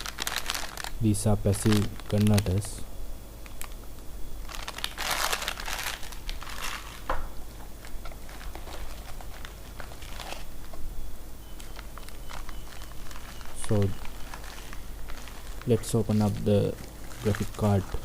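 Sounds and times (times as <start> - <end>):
packaging rustling: 0.0 - 2.8, 4.4 - 10.8, 11.5 - 18.0.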